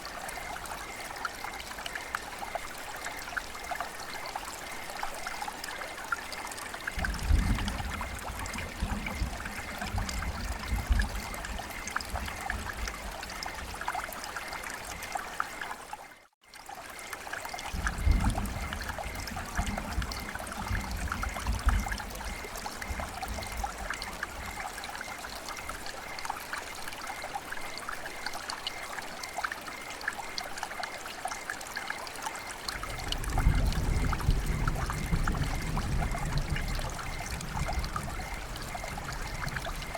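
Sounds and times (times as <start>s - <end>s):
fine drips: 0.0s - 39.9s
rain: 0.0s - 39.9s
running water trickling and splashing: 0.0s - 39.9s.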